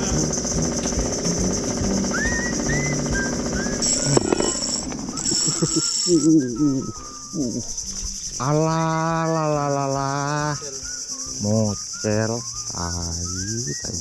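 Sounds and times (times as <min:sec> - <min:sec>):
loud held pitched tone: 0:00.0 - 0:13.9
high-pitched insect drone: 0:00.0 - 0:14.0.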